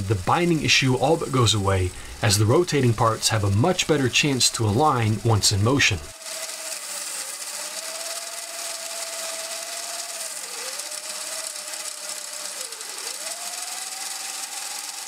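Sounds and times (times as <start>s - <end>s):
small motor and gears whining: 0.0s - 15.0s.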